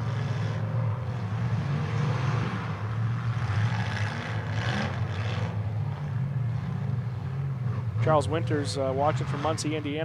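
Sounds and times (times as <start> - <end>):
car engines droning: 0.0 - 10.0.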